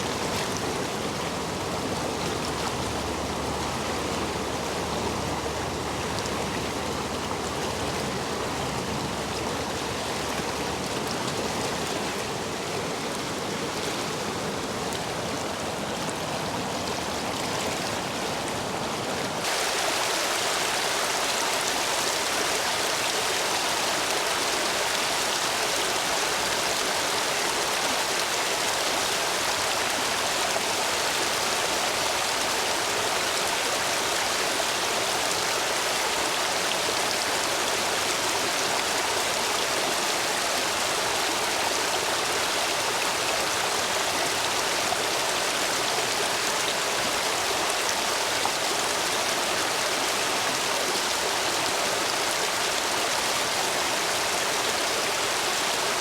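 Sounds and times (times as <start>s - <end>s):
stream water rushing over stones: 0.0s - 56.0s.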